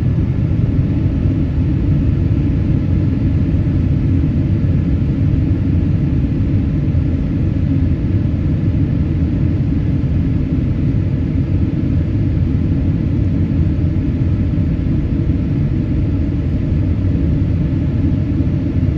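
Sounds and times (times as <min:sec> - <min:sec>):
jet cabin takeoff rumble: 0:00.0 - 0:18.9.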